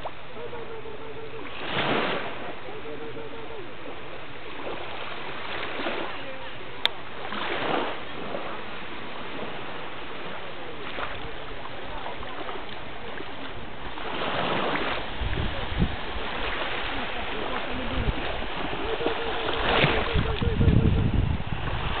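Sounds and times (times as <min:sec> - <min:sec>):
water washing: 0:00.0 - 0:22.0.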